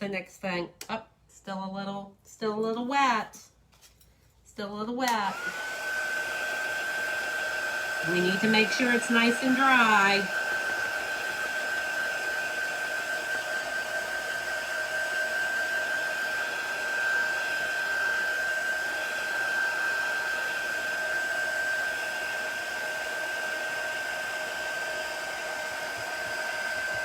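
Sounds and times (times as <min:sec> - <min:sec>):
blow dryer running: 0:05.1 - 0:27.0.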